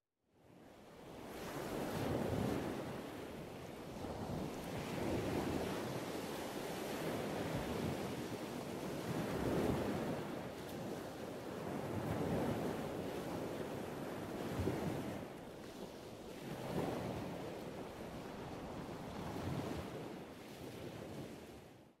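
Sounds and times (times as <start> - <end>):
wind: 0.2 - 22.0.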